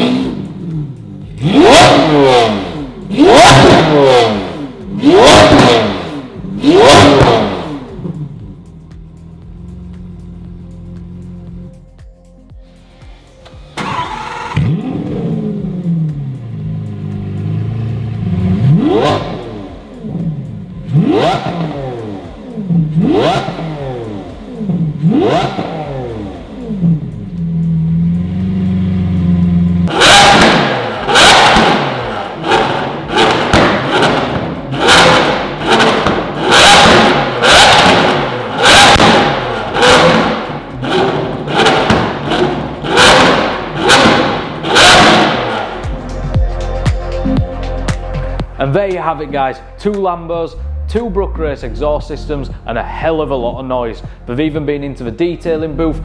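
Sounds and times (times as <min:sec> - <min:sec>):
exhaust bangs: 0:00.0 - 0:11.6, 0:13.6 - 0:46.5, 0:47.2 - 0:56.0
sports car engine revving: 0:00.0 - 0:11.9, 0:12.8 - 0:56.0.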